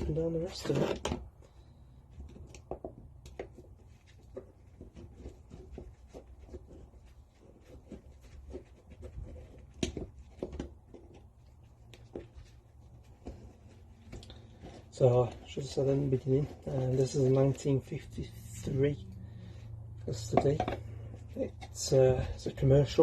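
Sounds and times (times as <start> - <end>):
steady low hum: 1.4 - 23.0.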